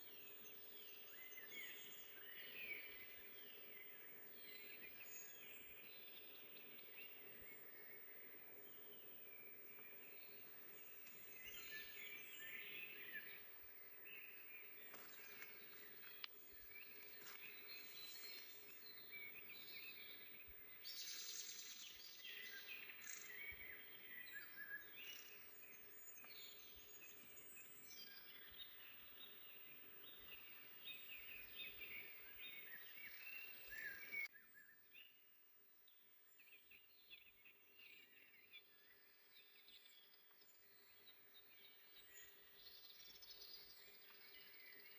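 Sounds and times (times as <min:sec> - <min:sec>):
soft forest background: 0:00.0 - 0:44.9
songbirds singing and chirping: 0:00.0 - 0:44.9.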